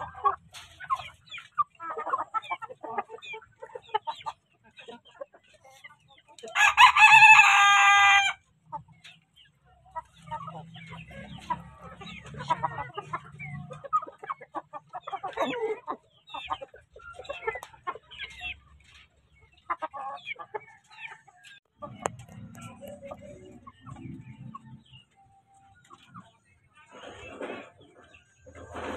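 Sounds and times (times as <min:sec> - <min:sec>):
hens clucking: 0:00.0 - 0:28.9.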